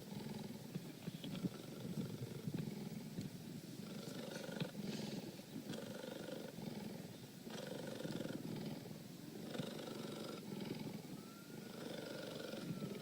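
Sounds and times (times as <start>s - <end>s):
cheetah purring: 0.0s - 13.0s.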